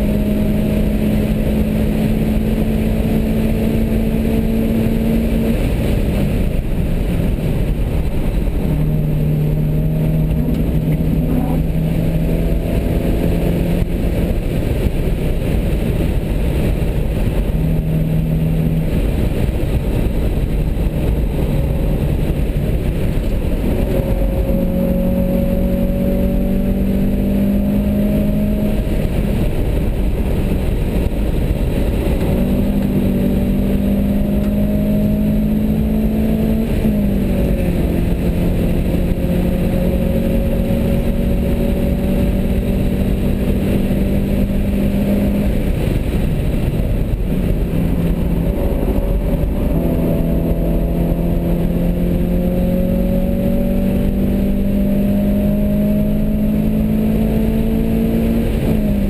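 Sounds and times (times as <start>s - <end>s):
car engine running hard: 0.0s - 59.0s
heavy rushing noise: 0.0s - 59.0s.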